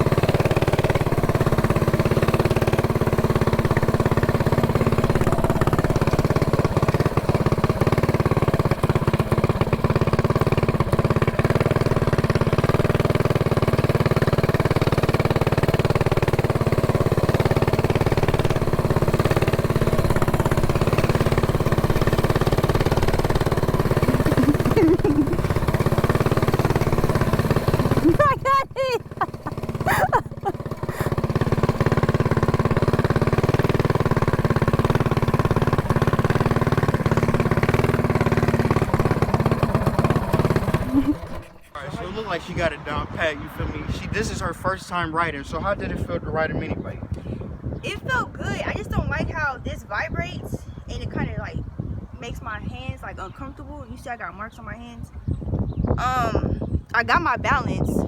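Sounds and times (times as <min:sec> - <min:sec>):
small engine running: 0:00.0 - 0:51.4.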